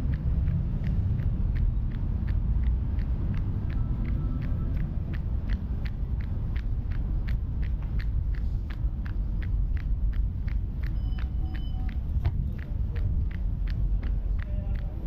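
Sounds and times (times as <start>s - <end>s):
running footsteps on pavement: 0.0s - 15.0s
steady low rumble: 0.0s - 15.0s.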